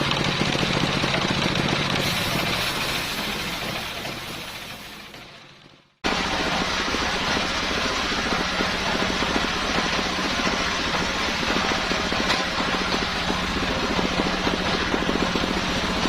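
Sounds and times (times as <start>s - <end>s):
circular saw engine running: 0.0s - 16.0s.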